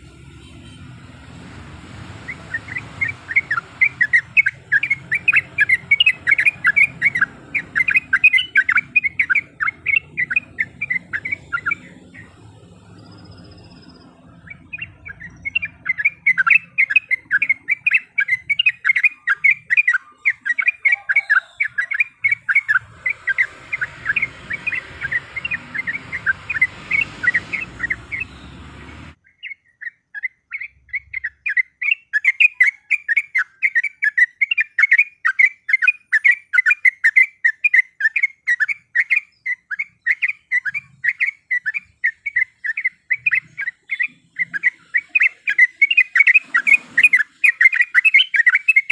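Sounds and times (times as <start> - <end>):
bulbul chattering song: 0.0 - 48.9.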